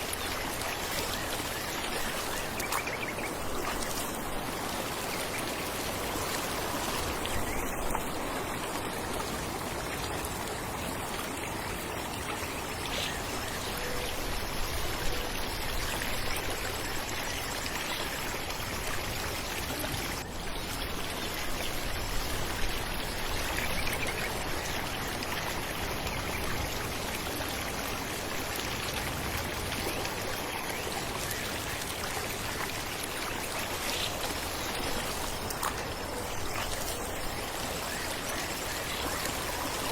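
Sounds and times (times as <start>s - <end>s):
falling water splashing: 0.0s - 39.9s.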